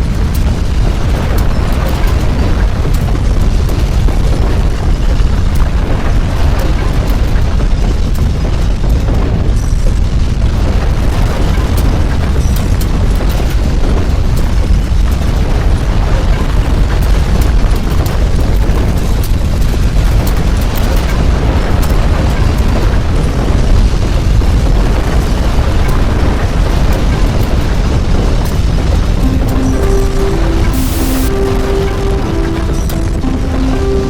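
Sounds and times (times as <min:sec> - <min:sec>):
crackling and rattling clicks: 0:00.0 - 0:29.6
deep earthquake rumble: 0:00.0 - 0:34.0.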